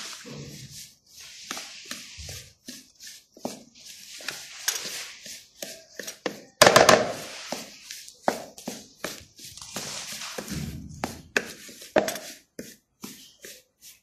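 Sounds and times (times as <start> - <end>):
utensil scraping a bowl: 0.0 - 14.0.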